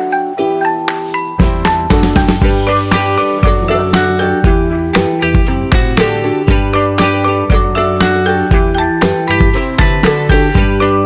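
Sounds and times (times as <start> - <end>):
electronic music with bass and beat: 0.4 - 11.0.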